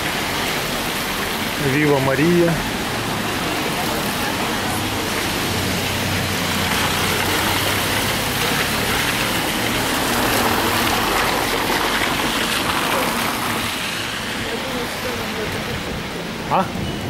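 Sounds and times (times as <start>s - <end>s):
rain on wet street: 0.0s - 17.0s.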